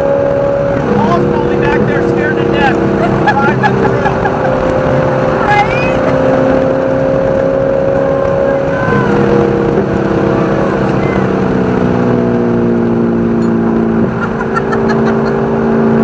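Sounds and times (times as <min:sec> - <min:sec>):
race car engine from inside: 0:00.0 - 0:16.0.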